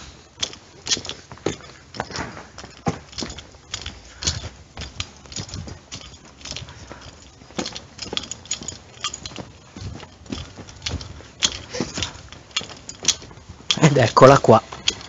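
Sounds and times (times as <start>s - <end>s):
footsteps on gritty pavement: 0.0s - 15.0s.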